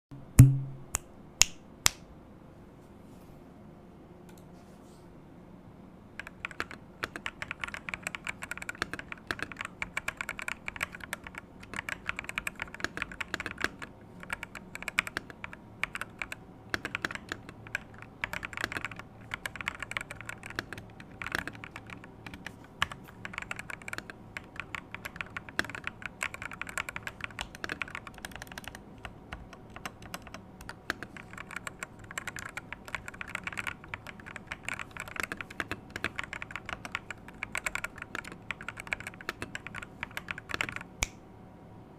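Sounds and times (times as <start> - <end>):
typing on mechanical keyboard: 6.2 - 40.9.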